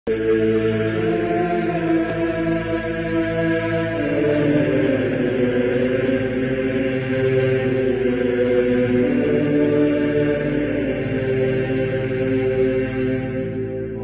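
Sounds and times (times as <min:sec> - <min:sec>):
slow choral chant: 0:00.1 - 0:14.0.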